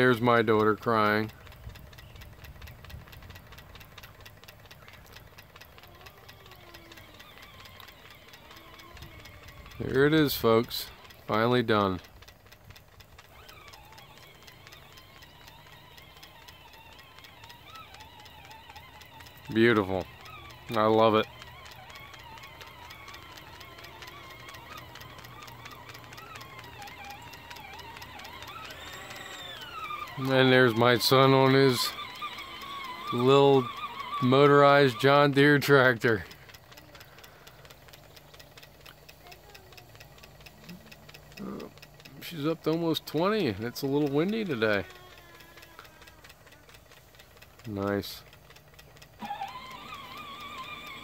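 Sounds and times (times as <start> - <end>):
steam engine rapid ticking: 0.0 - 51.0.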